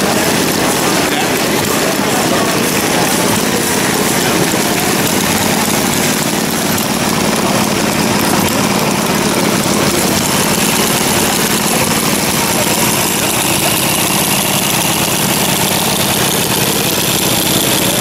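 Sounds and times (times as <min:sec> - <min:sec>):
model gas engines running: 0:00.0 - 0:18.0.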